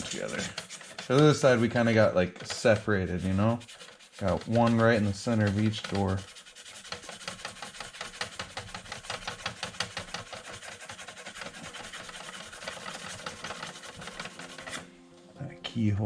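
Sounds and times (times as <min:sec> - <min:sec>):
sandpaper rubbing on plastic: 0:00.0 - 0:14.9.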